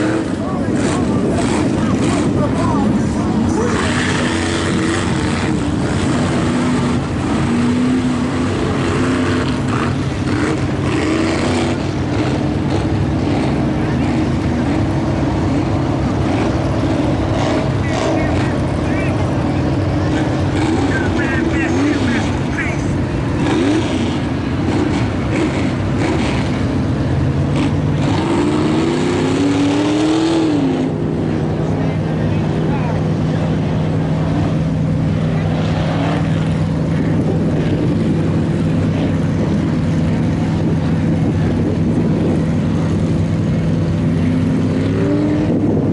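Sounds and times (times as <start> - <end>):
truck engine revving: 0.0 - 45.9.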